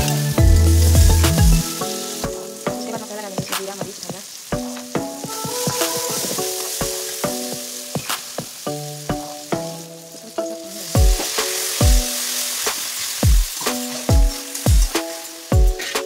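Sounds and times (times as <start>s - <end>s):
background music with low beat: 0.0s - 16.0s
food sizzling in hot oil: 0.0s - 16.0s.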